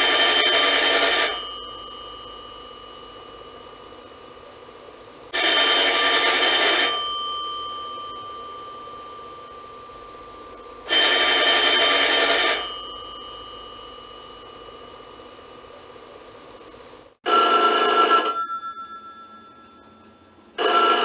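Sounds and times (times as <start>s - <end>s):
telephone bell ringing: 0.0s - 4.4s, 5.3s - 15.7s, 17.3s - 21.0s.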